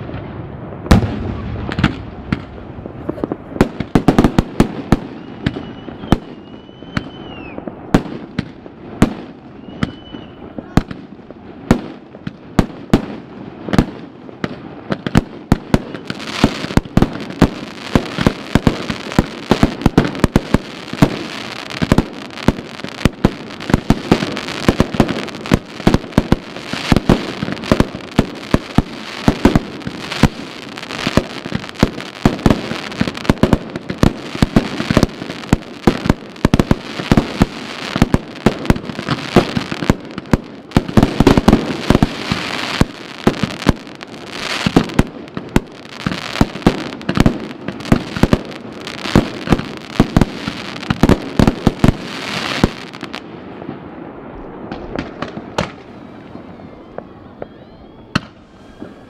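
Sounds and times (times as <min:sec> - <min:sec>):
fireworks crackling: 0:00.0 - 0:59.0
fireworks sharp bangs: 0:00.0 - 0:59.0.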